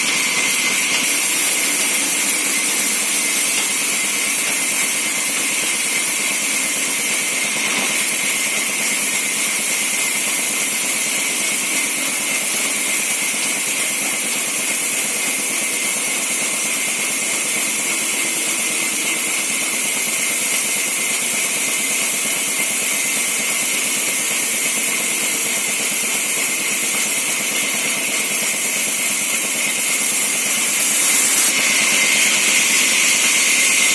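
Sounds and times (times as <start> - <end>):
sawmill saw running: 0.0 - 33.9.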